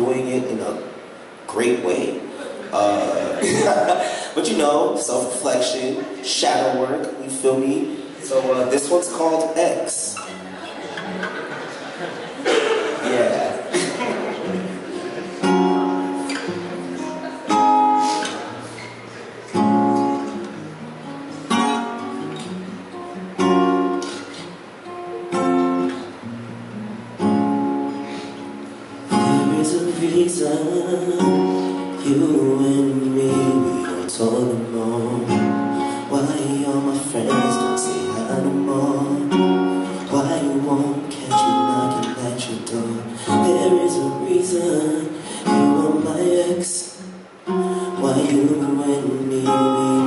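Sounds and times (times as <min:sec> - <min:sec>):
acoustic guitar strumming: 0:00.0 - 0:50.0.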